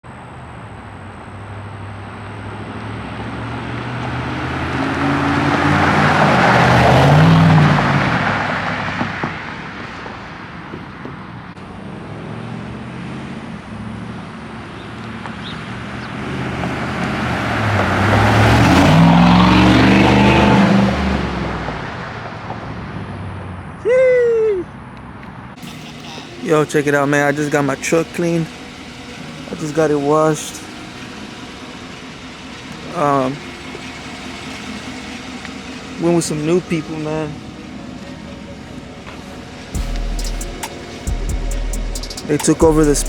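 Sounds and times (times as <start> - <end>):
vehicle driving past: 0.3 - 23.8, 24.7 - 43.0.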